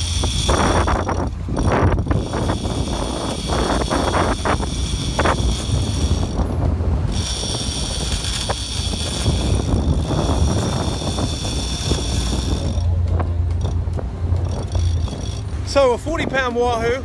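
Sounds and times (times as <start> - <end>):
fishing reel buzzing: 0.0 - 13.8, 14.4 - 15.6
boat engines droning: 0.0 - 17.0.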